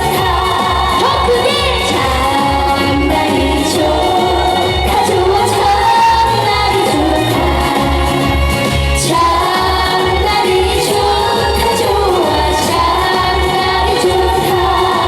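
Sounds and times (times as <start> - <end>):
backing track with bass beat: 0.0 - 15.0
woman singing: 0.0 - 15.0.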